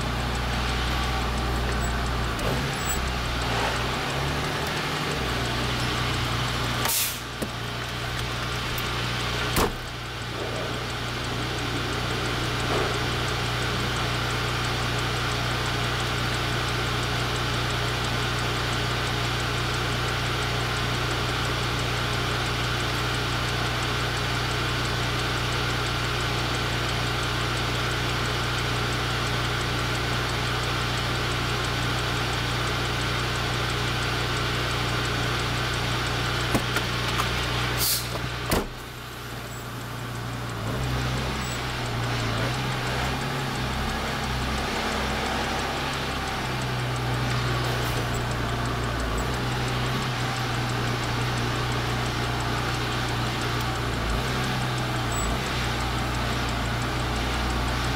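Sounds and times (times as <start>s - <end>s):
diesel truck engine idling: 0.0s - 57.9s
sharp clicks: 0.0s - 57.9s.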